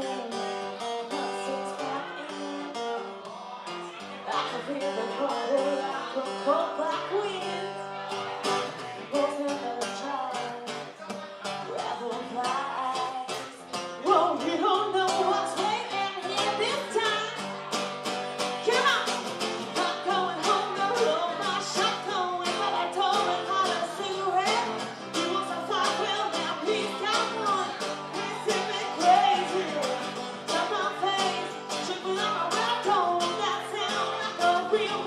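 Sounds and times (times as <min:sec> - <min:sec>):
person singing: 0:00.0 - 0:17.7, 0:18.4 - 0:35.0
guitar: 0:00.0 - 0:35.0.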